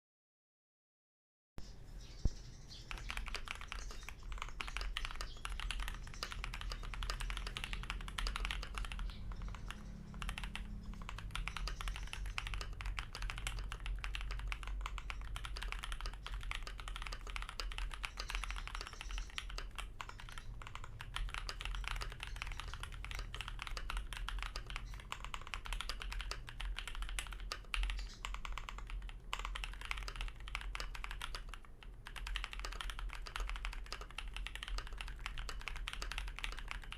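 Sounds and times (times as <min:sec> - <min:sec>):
faint low hum: 0:01.6 - 0:36.9
mechanical keyboard typing: 0:02.8 - 0:36.9.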